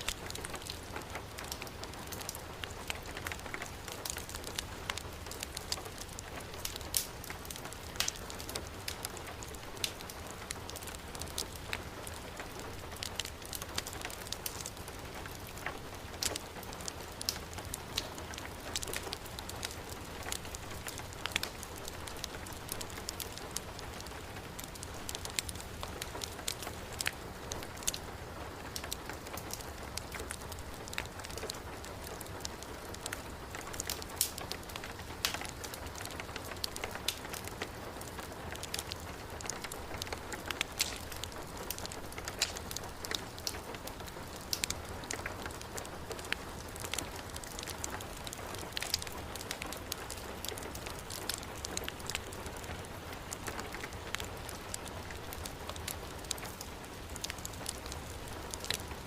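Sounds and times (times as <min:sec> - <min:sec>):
heavy rain: 0:00.0 - 0:59.0
wood fire crackling and popping: 0:00.0 - 0:59.0.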